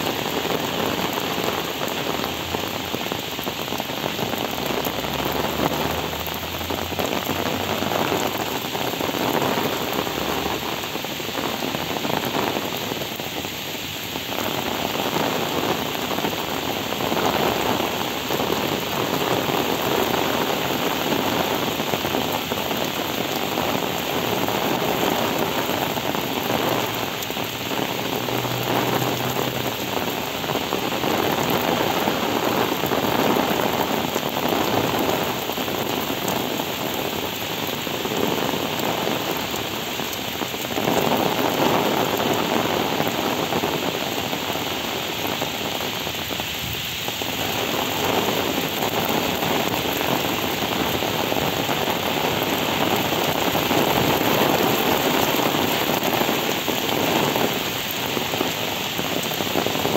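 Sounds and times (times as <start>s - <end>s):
heavy rain on wet pavement: 0.0s - 59.9s.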